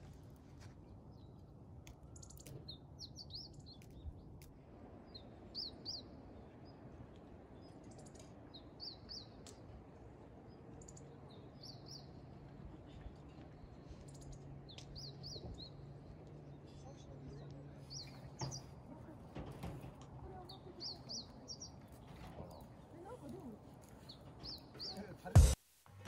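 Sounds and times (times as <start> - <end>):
small birds chirping faintly: 0.0 - 26.0.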